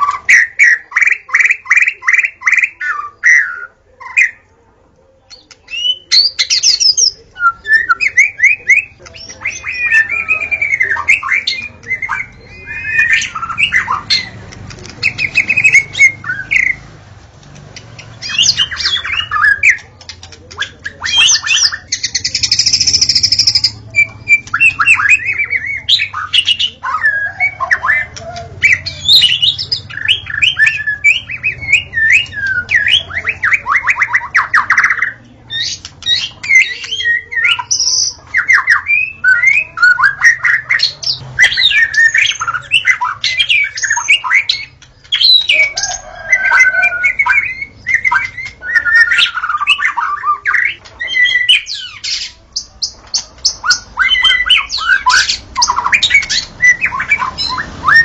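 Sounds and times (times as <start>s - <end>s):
bird singing whistles and trills: 5.3s - 16.8s, 18.0s - 58.0s.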